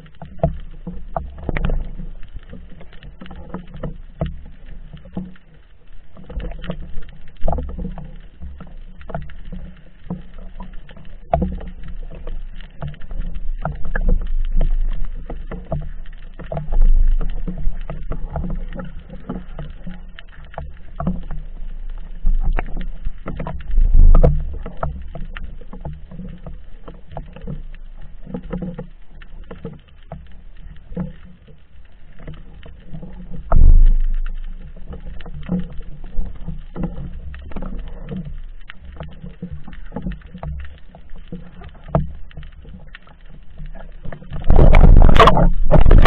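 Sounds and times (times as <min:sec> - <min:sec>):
muffled underwater rumble: 0:00.0 - 0:46.0
rush of water: 0:00.0 - 0:46.0
underwater knocks and thumps: 0:00.0 - 0:46.0.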